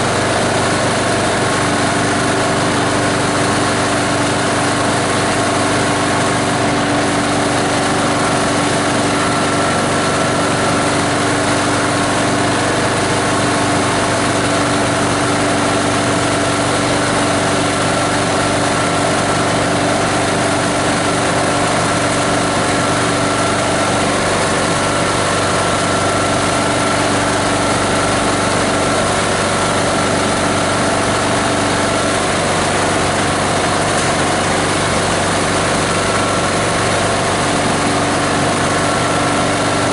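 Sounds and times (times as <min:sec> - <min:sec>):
diesel shredding machine running: 0:00.0 - 0:39.9.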